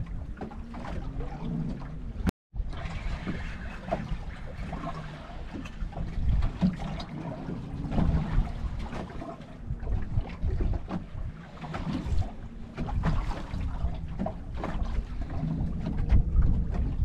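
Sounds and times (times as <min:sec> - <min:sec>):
water lapping against boat hull: 0:00.0 - 0:17.0
wind rumble on microphone: 0:00.0 - 0:17.0.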